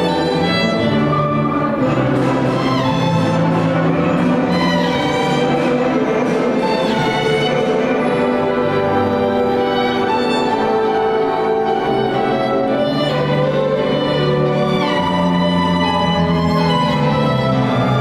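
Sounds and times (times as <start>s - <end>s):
orchestra playing a waltz: 0.0s - 18.0s.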